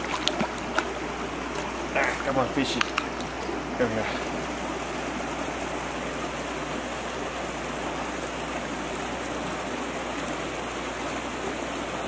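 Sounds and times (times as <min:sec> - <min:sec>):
creek running over rocks: 0:00.0 - 0:12.0.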